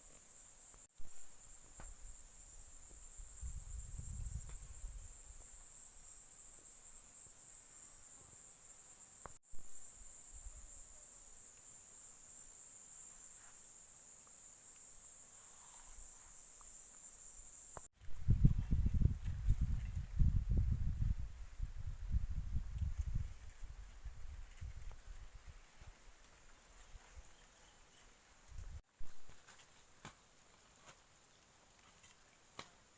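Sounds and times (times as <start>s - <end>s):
insects chirring: 0.1s - 32.9s.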